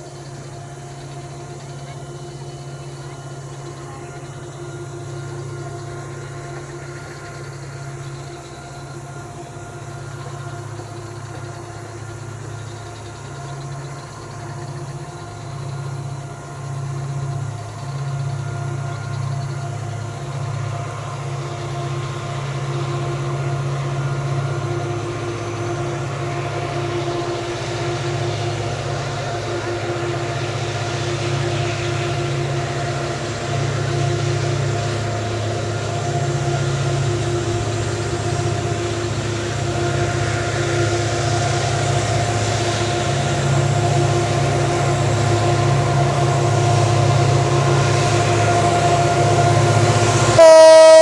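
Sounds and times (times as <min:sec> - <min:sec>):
diesel locomotive engines droning: 0:00.0 - 0:51.0.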